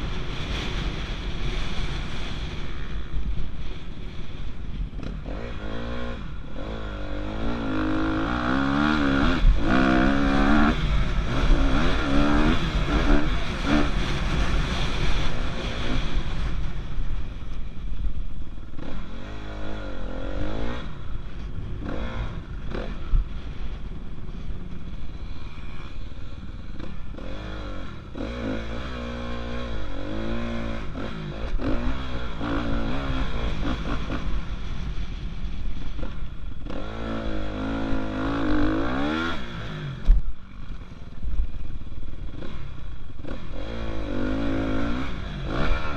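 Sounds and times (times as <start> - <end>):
dirt bike engine revving: 5.0 - 16.9, 18.6 - 24.4, 25.2 - 45.9.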